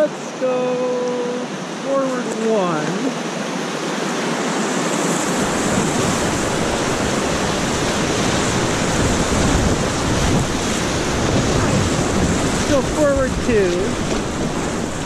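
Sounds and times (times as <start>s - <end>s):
river rapid rushing and churning: 0.0s - 15.0s
water splashing against boat: 0.0s - 15.0s.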